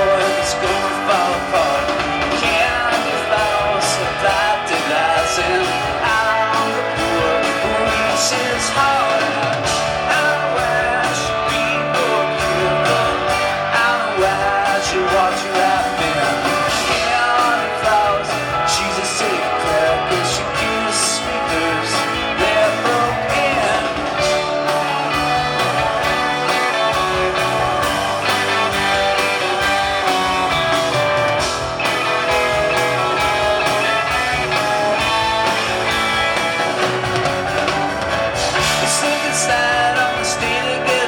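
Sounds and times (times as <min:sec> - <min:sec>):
electric guitars: 0:00.0 - 0:41.0
person singing: 0:00.0 - 0:41.0
rock band playing live: 0:00.0 - 0:41.0.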